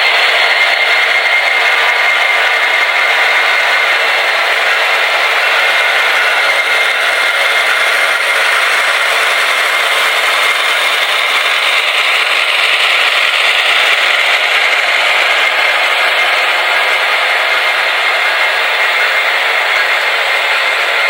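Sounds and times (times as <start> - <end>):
model train diesel engine sounds: 0.0 - 21.0
model train motor and wheel noise: 0.0 - 21.0.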